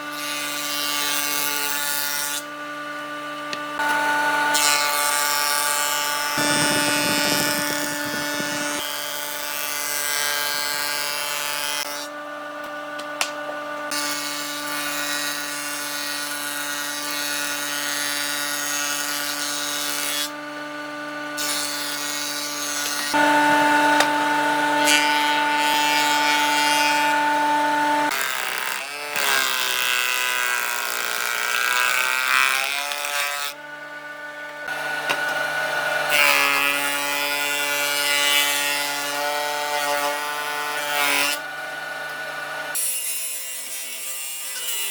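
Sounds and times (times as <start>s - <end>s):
power tool cutting wood: 0.0s - 44.9s.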